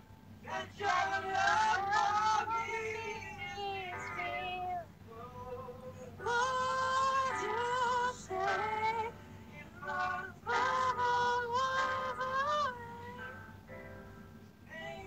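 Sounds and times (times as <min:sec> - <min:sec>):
man singing unaccompanied: 0:00.4 - 0:13.5, 0:14.6 - 0:15.0.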